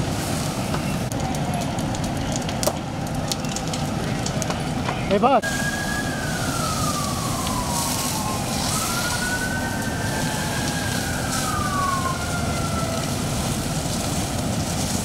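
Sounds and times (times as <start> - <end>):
distant sirens wailing: 0.0 - 15.0
steady rushing background noise: 0.0 - 15.0.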